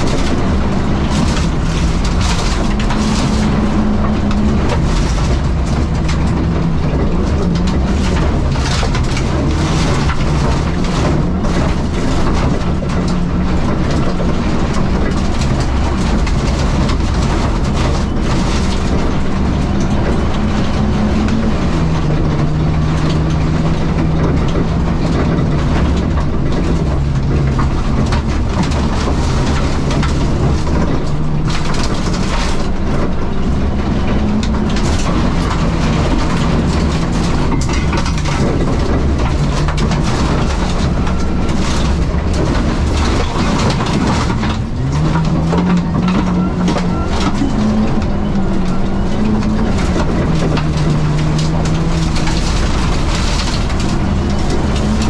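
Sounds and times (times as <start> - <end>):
supercharged car engine: 0.0 - 55.0.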